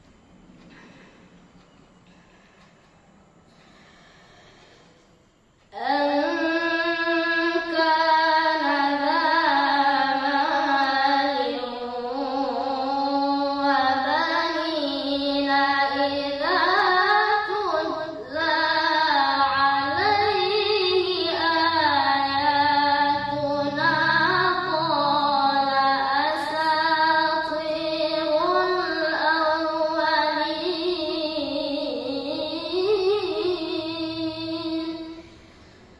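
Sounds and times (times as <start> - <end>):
boy reciting melodically: 5.6 - 35.6.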